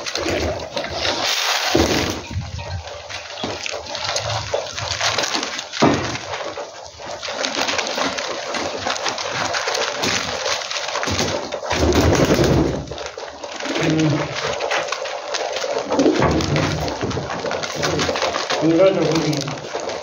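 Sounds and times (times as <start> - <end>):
pigeon wings flapping: 0.0 - 20.0
pigeons scuffling on dirt: 0.0 - 20.0.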